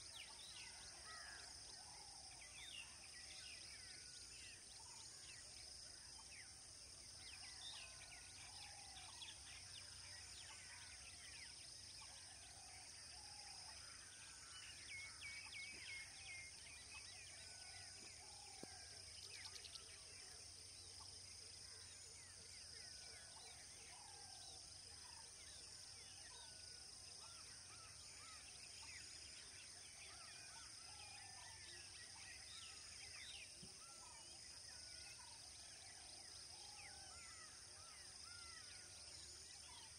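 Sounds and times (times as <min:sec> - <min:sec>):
high insect hum: 0:00.0 - 0:39.9.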